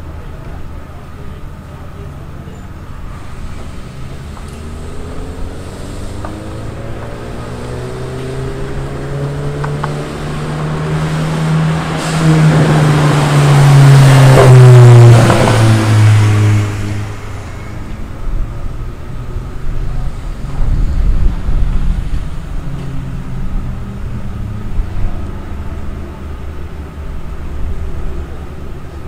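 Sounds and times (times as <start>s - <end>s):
race car driving past: 3.0s - 26.8s.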